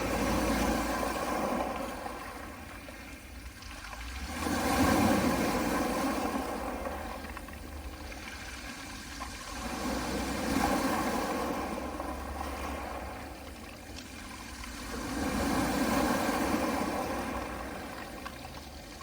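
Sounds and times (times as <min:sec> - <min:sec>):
waves washing onto pebbles: 0:00.0 - 0:19.0.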